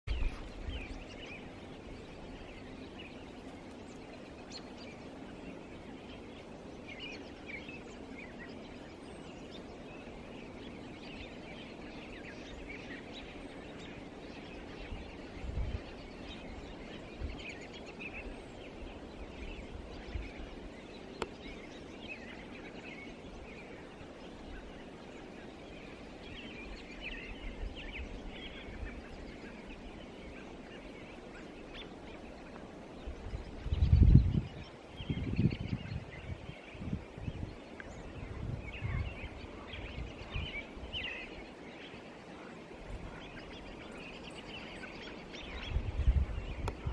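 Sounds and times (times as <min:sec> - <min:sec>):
birds chirping: 0:00.0 - 0:46.9.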